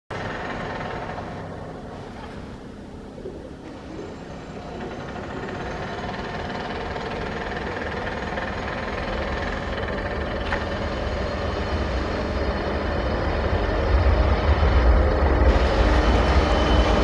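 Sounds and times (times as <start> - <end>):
electric locomotive humming and whining: 0.1 - 17.0.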